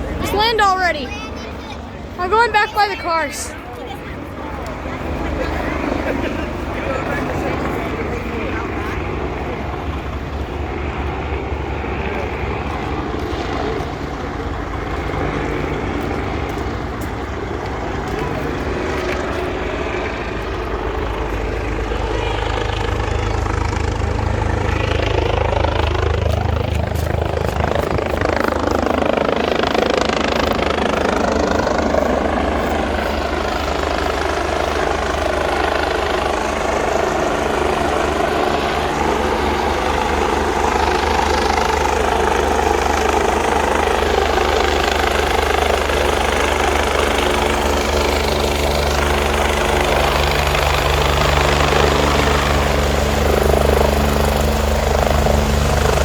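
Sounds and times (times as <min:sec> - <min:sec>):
helicopter rotor rumble: 0:00.0 - 0:56.0.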